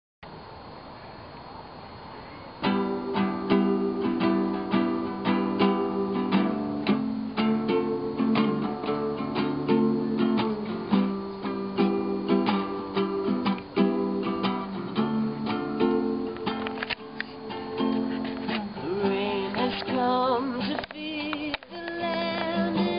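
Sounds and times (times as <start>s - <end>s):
faint hiss: 0.2s - 22.9s
acoustic guitar strumming: 2.5s - 22.9s.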